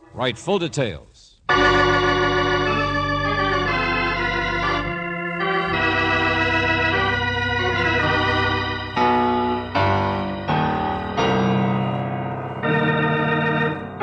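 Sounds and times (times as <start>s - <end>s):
organ chords: 1.4s - 14.0s.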